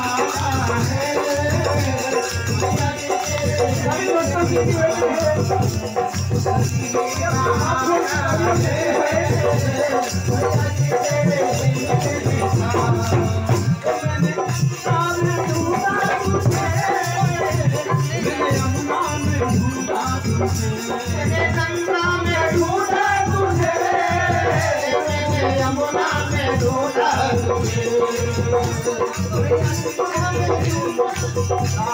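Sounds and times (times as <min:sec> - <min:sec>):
drum beat: 0:00.0 - 0:31.9
jingling rattling percussion: 0:00.0 - 0:31.9
man singing devotional song: 0:00.0 - 0:31.9.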